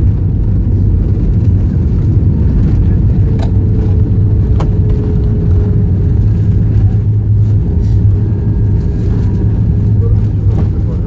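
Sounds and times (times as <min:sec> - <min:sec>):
airliner cabin rumble on landing: 0:00.0 - 0:11.0.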